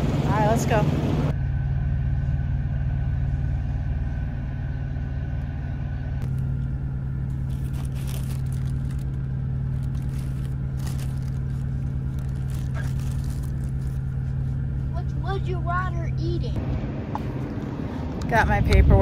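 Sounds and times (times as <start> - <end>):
diesel engine humming: 0.0 - 19.0
faint high whine: 1.3 - 16.5.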